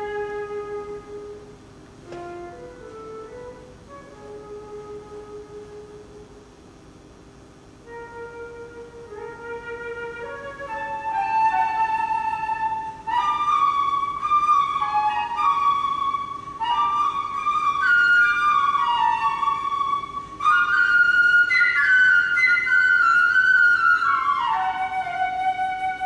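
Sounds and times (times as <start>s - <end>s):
solo flute melody: 0.0s - 6.5s, 7.8s - 26.0s.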